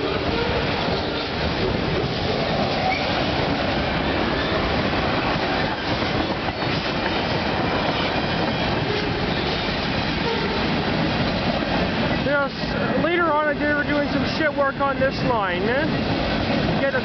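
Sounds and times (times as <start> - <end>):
steel wheels on rail: 0.0 - 17.0.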